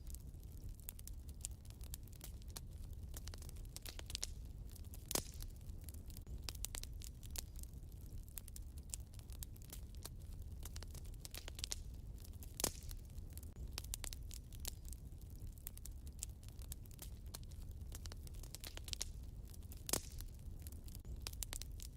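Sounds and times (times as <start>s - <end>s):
fire popping: 0.0s - 21.9s
wood fire crackling: 0.0s - 21.9s.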